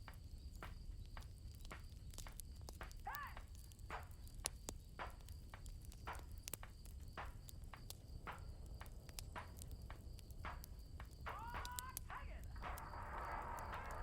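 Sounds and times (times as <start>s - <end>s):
campfire crackling and popping: 0.0s - 14.0s
crickets chirring: 0.0s - 14.0s.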